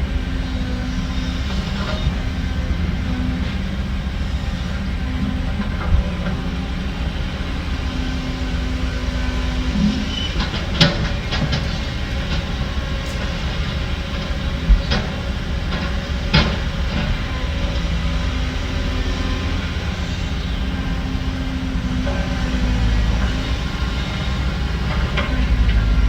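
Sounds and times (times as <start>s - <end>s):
diesel machinery running: 0.0s - 26.0s.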